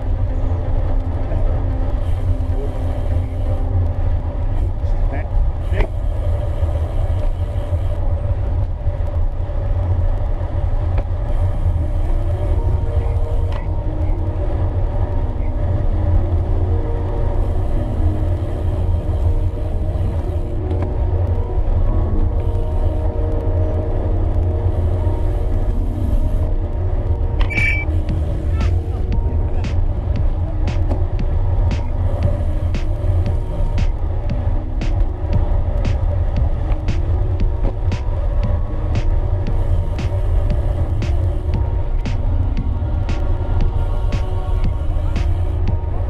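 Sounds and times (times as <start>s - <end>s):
faint higher hums: 0.0s - 46.0s
wind buffeting microphone: 0.0s - 46.0s.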